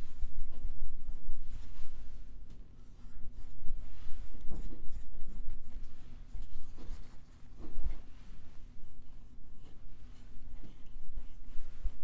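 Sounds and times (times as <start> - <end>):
paintbrush strokes on wood: 0.0 - 12.0
steady low hum: 0.0 - 12.0.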